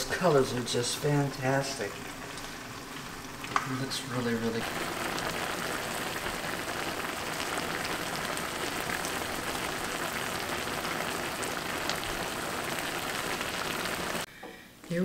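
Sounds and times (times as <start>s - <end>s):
stir fry sizzling in a wok: 0.0s - 14.3s.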